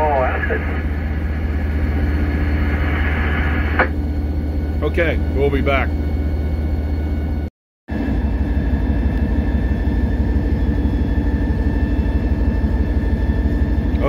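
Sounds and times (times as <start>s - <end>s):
diesel locomotive engine drone: 0.0s - 14.0s
thin steady whine: 0.0s - 14.0s.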